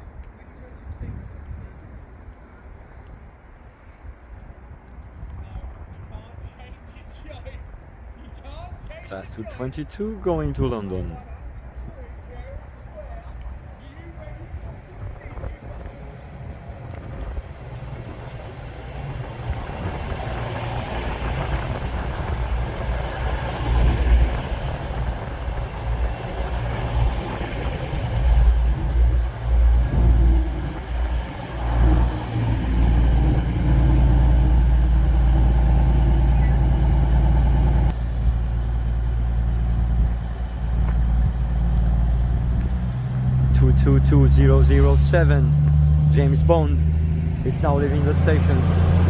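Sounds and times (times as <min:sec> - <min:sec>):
train diesel engines droning: 0:07.9 - 0:49.0.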